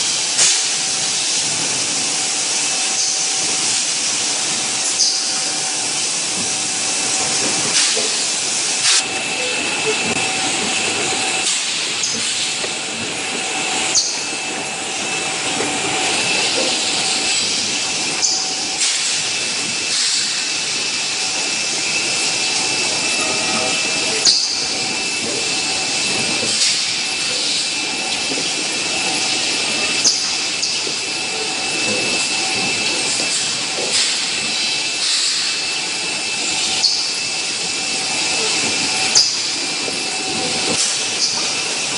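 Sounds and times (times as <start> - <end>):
mechanical hiss: 0.0 - 41.9.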